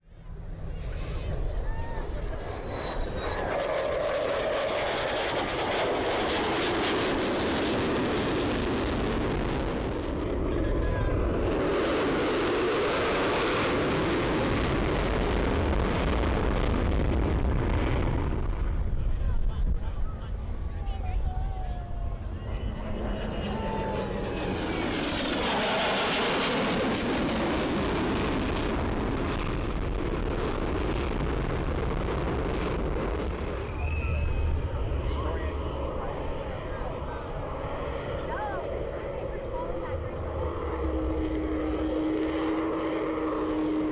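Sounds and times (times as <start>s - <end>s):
jet engine rushing: 0.3s - 43.9s.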